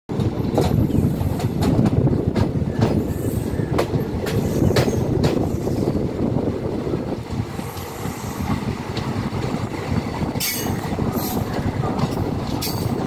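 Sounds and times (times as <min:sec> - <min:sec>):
train low rumble: 0:00.1 - 0:13.0.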